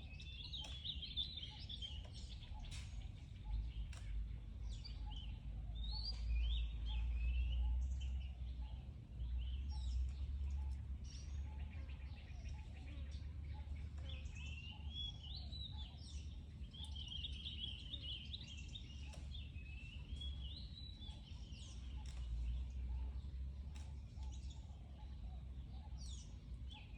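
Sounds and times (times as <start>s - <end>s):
high wavering chirping calls: 0.0s - 26.9s.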